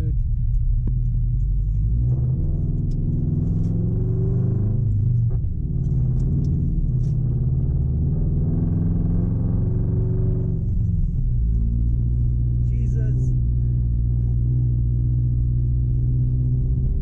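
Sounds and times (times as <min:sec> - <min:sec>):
car engine heard from cabin: 0:00.0 - 0:17.0.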